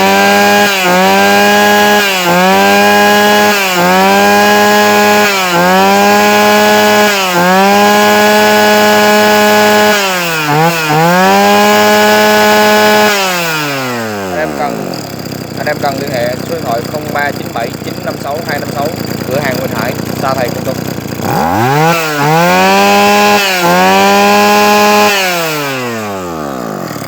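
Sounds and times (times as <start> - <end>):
brush cutter engine whining: 0.0 - 27.0.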